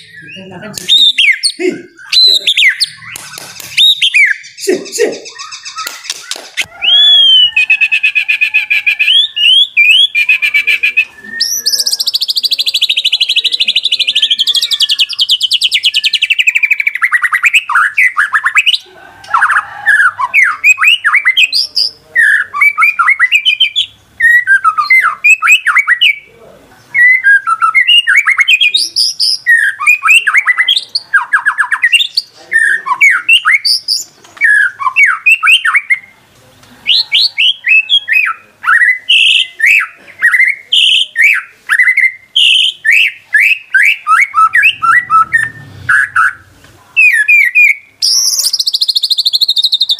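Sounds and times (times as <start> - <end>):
bird singing trills and whistles: 0.0 - 26.3, 26.9 - 36.1, 36.9 - 49.9.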